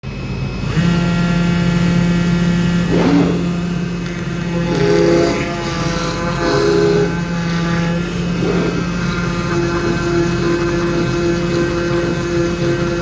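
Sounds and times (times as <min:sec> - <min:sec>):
cutting machine motor hum: 0:00.5 - 0:13.0
drive motors whining: 0:00.6 - 0:13.0.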